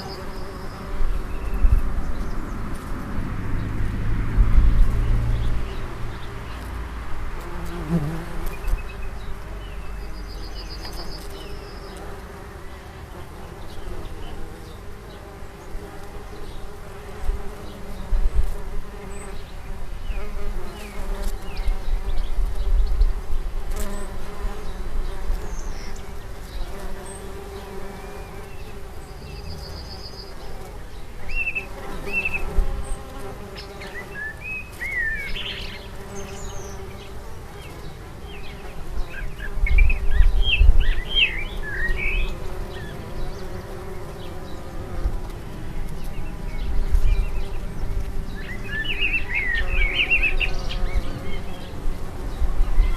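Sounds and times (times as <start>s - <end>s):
small birds chirping: 0.0s - 3.0s, 4.8s - 52.9s
bee buzzing: 0.0s - 52.9s.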